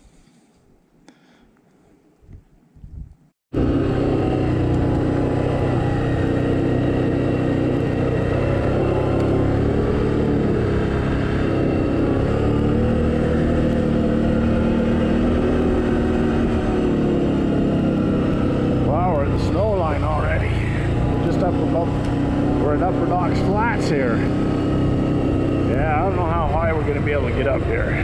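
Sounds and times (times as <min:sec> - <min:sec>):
atv engine running: 0:03.5 - 0:28.0.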